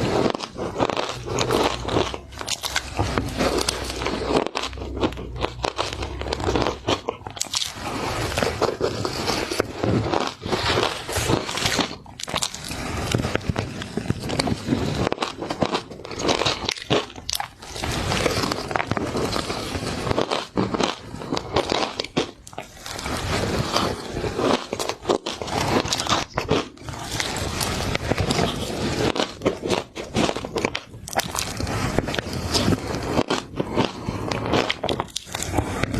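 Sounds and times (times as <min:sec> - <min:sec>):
chewing and crunching shaved ice: 0:00.0 - 0:35.9.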